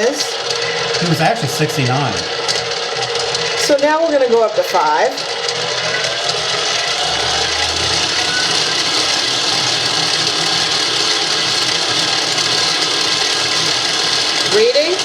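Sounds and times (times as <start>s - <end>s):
stand mixer motor whirring: 0.0s - 15.0s.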